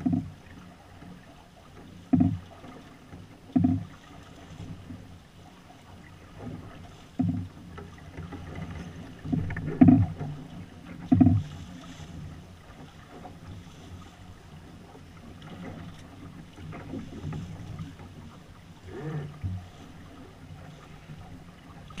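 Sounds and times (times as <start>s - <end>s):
water splashing along boat hull: 0.0s - 22.0s.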